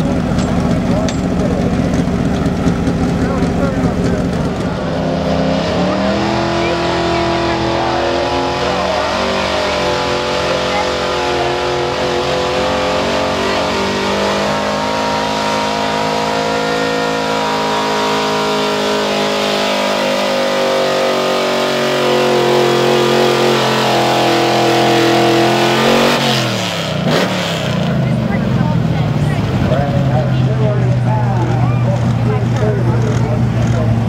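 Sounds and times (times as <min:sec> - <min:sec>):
truck engine running flat out: 0:00.0 - 0:34.0.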